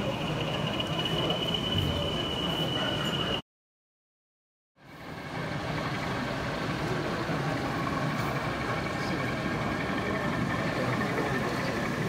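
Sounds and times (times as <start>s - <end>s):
model locomotive engine idling: 0.0s - 3.4s, 4.8s - 12.0s.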